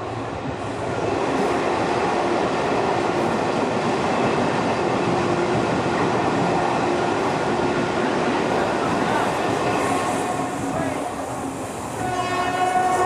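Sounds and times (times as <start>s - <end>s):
train coaches rumbling and rattling: 0.0s - 13.0s.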